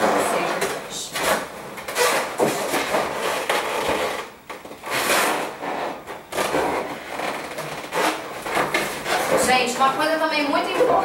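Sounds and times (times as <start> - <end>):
balloons rubbing and squeaking: 0.0 - 11.0.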